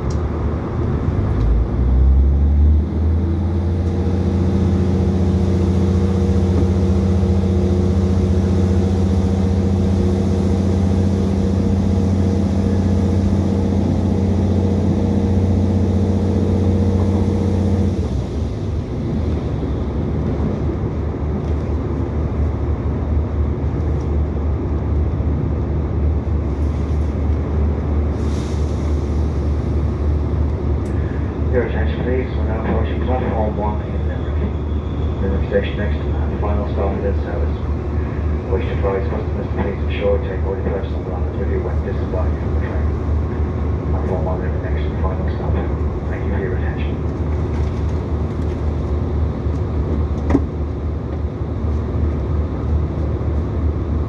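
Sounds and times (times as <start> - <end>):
diesel engine drone: 0.0 - 54.0
train wheels rumbling on rails: 0.0 - 54.0.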